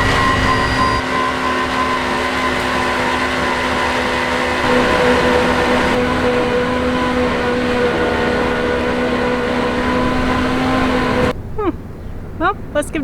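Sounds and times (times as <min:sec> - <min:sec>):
mechanical hum with held tone: 0:00.0 - 0:12.8.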